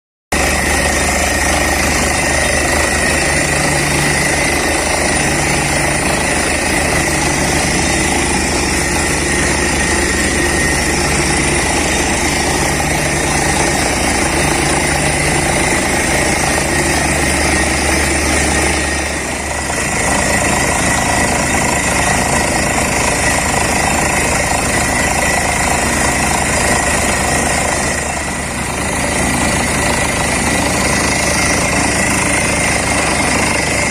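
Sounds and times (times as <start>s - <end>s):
drilling rig engine: 0.3s - 33.9s
drilling rig hammering: 0.3s - 33.9s.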